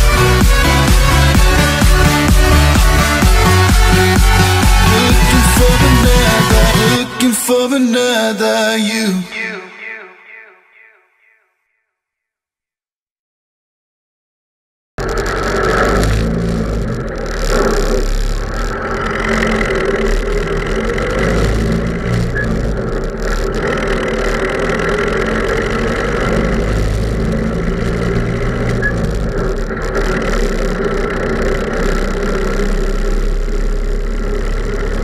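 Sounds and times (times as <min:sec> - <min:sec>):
diesel engine running: 0:00.0 - 0:08.3, 0:15.0 - 0:35.0.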